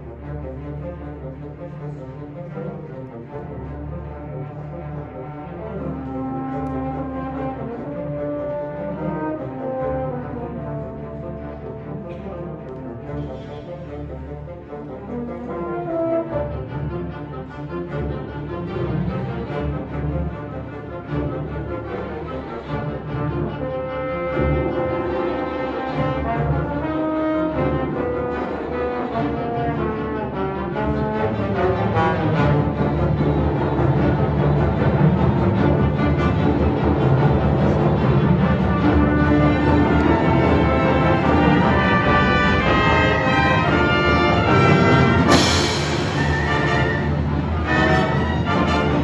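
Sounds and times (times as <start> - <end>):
orchestra strings and brass: 0.0 - 49.0.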